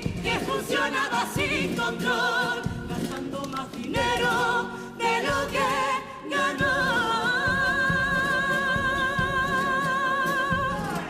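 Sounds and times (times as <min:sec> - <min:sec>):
chorus singing in several voices: 0:00.0 - 0:11.0.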